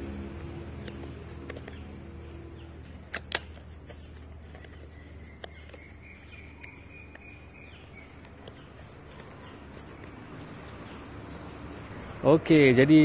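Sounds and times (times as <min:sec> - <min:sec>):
cardboard clicks: 0:00.6 - 0:12.0.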